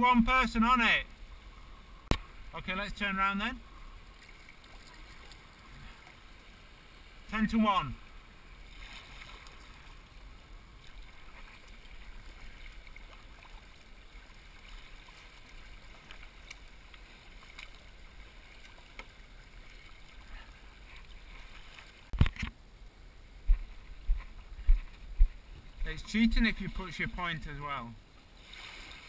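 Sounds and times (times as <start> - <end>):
water lapping: 0.0 - 22.2, 23.3 - 29.0
paddle splashes and drips: 3.6 - 7.3, 7.9 - 22.5, 23.4 - 29.0.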